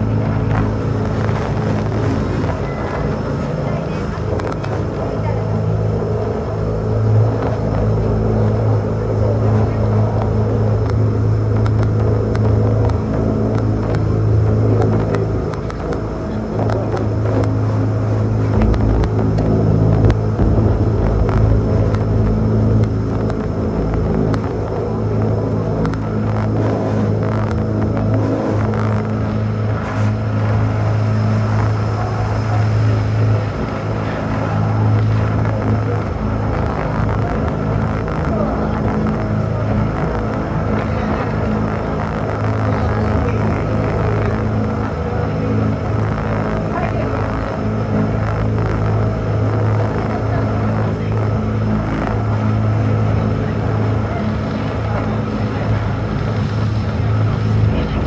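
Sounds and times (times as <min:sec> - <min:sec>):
electric train humming and rumbling: 0:00.0 - 0:58.0.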